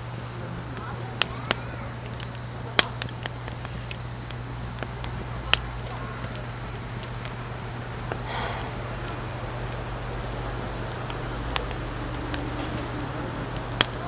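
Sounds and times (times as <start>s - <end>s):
high insect chirring: 0.0s - 14.0s
steady low hum: 0.0s - 14.0s
sharp pops: 0.5s - 14.0s.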